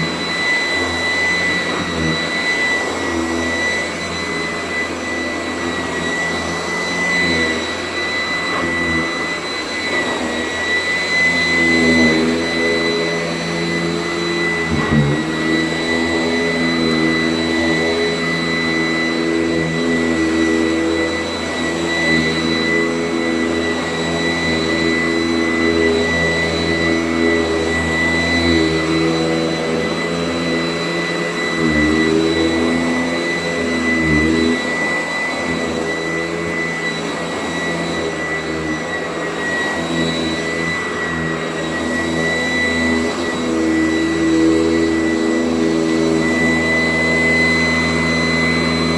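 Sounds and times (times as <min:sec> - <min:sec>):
upright vacuum cleaner running: 0:00.0 - 0:48.9.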